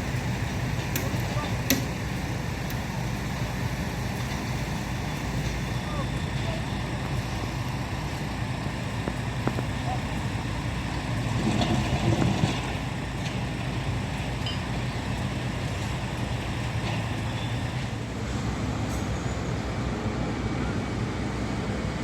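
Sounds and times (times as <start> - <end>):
low rumble of vehicle engines: 0.0 - 22.0.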